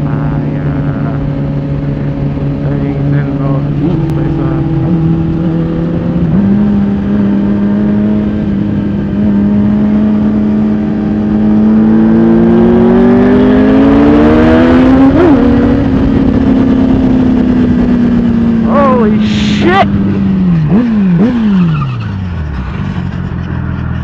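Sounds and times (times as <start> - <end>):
motorcycle engine accelerating: 0.0 - 24.0
wind noise: 0.0 - 24.0.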